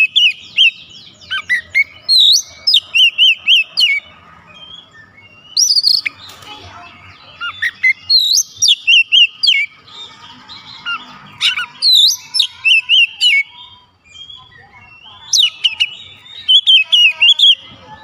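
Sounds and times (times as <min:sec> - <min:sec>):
bird whistled song: 0:00.0 - 0:06.3, 0:07.1 - 0:17.8.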